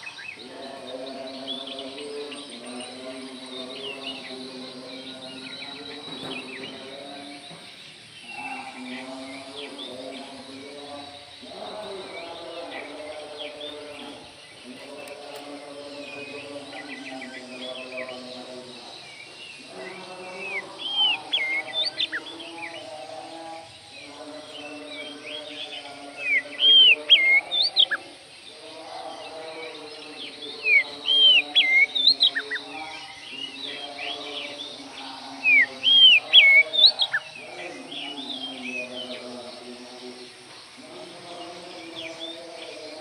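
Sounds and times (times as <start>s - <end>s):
bird singing whistled notes: 0.0s - 28.5s, 29.4s - 40.7s.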